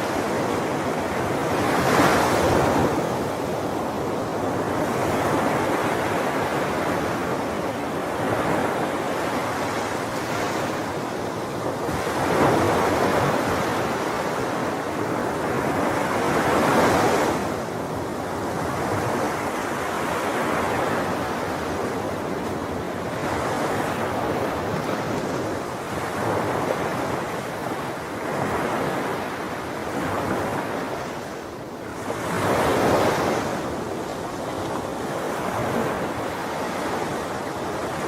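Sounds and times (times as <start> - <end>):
sea waves washing onto shore: 0.0 - 38.0.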